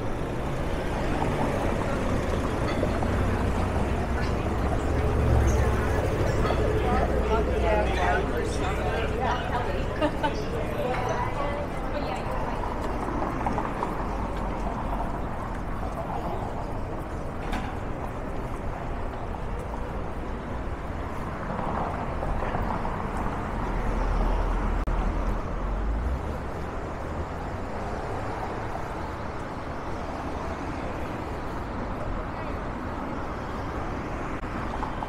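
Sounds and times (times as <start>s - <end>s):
heavy vehicle rumble: 0.0s - 35.0s
street traffic: 0.0s - 35.0s.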